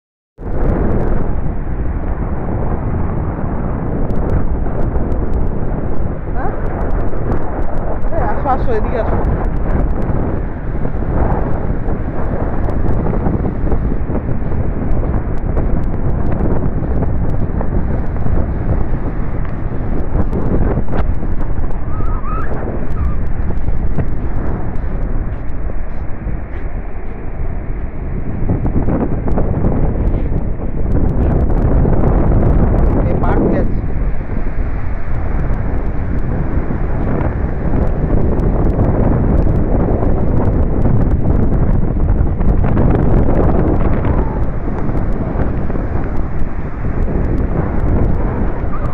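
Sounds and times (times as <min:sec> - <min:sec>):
wind buffeting microphone: 0:00.4 - 0:48.9
waves breaking on beach: 0:00.5 - 0:28.5, 0:32.8 - 0:48.9.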